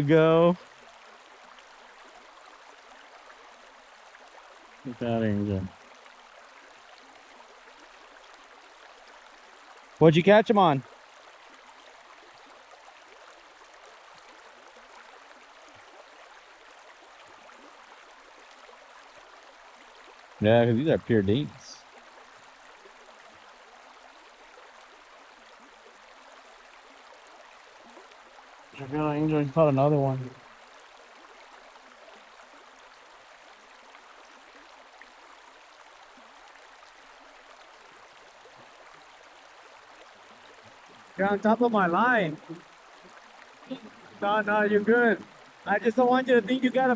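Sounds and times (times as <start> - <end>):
flowing water rushing: 0.0 - 46.9.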